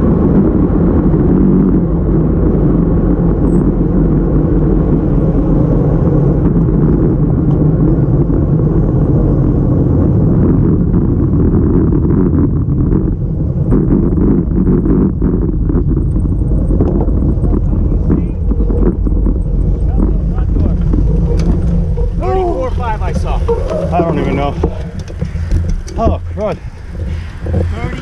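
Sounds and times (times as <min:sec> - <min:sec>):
tyre noise on asphalt: 0:00.0 - 0:28.0
wind rumbling over microphone: 0:00.0 - 0:28.0.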